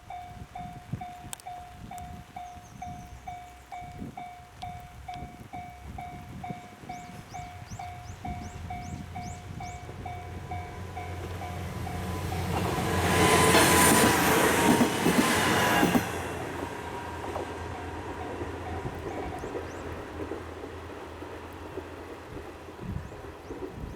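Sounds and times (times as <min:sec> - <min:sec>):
train passing: 0:03.2 - 0:23.9.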